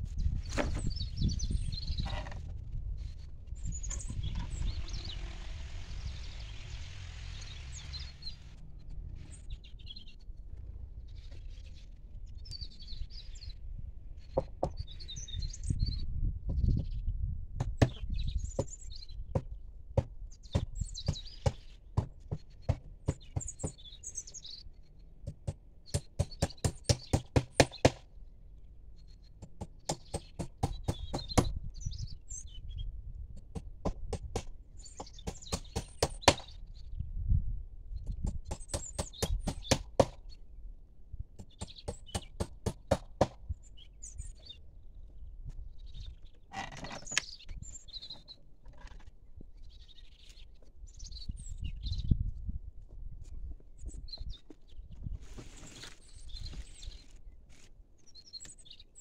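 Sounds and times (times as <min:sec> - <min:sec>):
small birds chirping: 0:00.1 - 0:37.2, 0:37.9 - 0:40.8, 0:41.4 - 0:52.5, 0:53.2 - 0:59.0.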